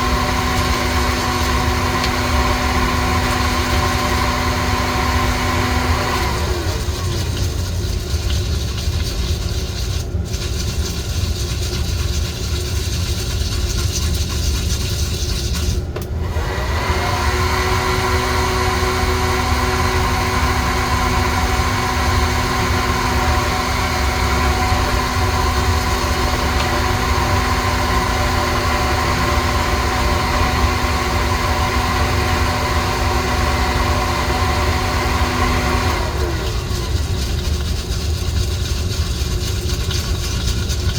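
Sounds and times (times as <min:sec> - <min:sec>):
coffee roaster motor drone: 0:00.0 - 0:40.9
pitched motor hum: 0:00.0 - 0:40.9.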